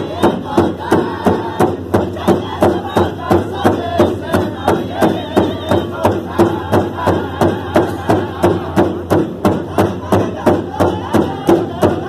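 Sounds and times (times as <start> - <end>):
large drum beaten with sticks: 0.0 - 12.0
men singing together: 0.0 - 12.0.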